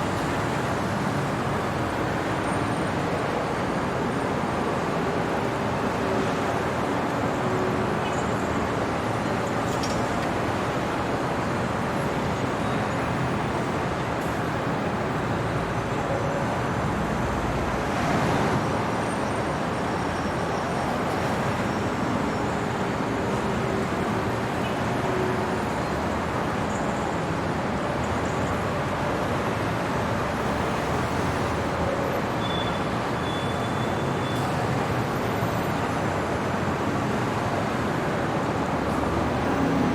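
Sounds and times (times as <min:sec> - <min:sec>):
road traffic: 0:00.0 - 0:39.9.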